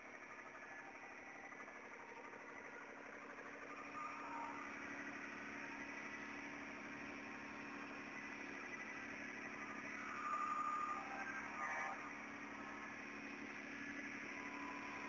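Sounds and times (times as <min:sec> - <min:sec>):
truck engine hum: 0:00.1 - 0:15.0.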